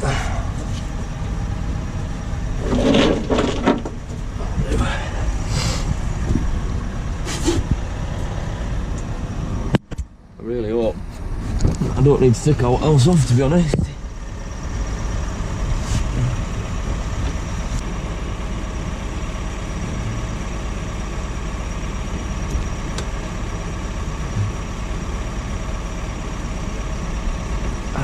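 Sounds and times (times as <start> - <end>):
machine drone with high whine: 0.0 - 28.0.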